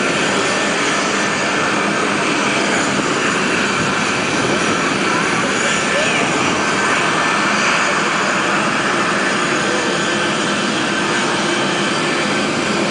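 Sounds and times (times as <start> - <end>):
airplane engine flyby: 0.0 - 12.9.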